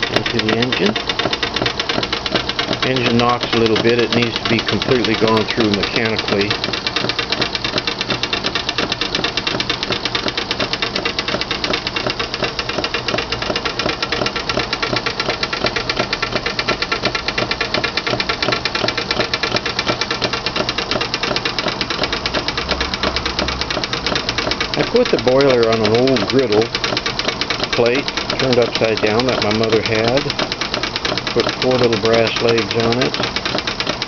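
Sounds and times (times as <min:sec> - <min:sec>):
miniature steam engine running: 0:00.0 - 0:34.0.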